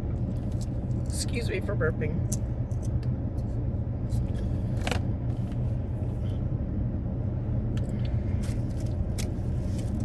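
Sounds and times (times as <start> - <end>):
car idling hum: 0.0 - 10.0.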